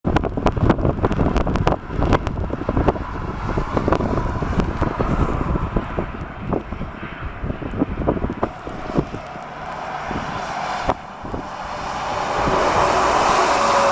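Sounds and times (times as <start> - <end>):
storm wind buffeting microphone: 0.0 - 13.9
jet engine whine: 0.5 - 13.9.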